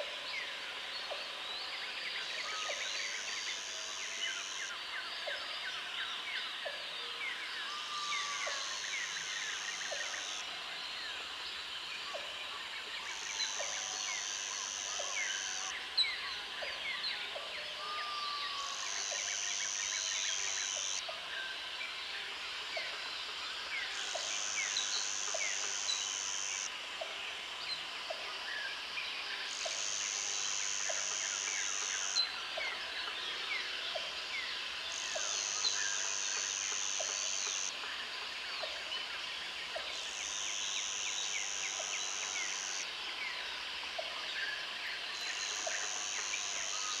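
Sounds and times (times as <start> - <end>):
high insect chorus: 0.0 - 47.0.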